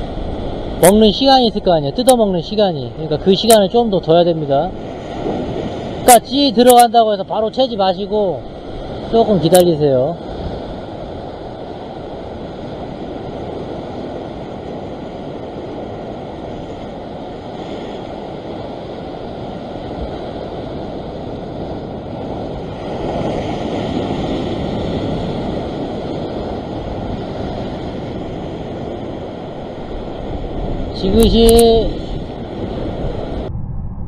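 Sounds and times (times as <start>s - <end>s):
wind on microphone: 0.0s - 6.8s, 8.0s - 34.0s
ocean surf against rocks: 0.0s - 33.7s.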